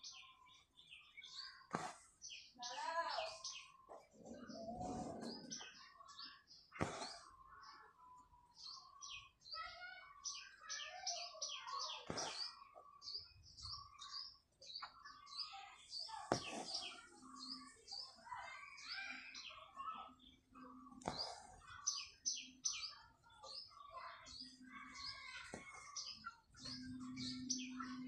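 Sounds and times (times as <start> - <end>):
birds chirping and chattering: 0.0 - 28.0.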